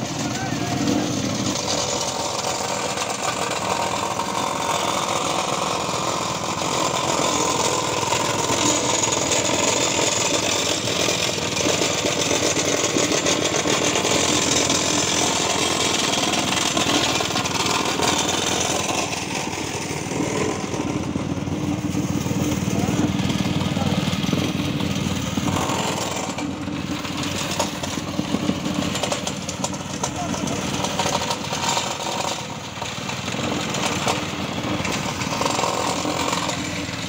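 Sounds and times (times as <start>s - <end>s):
plate compactor engine buzzing: 0.0s - 37.0s.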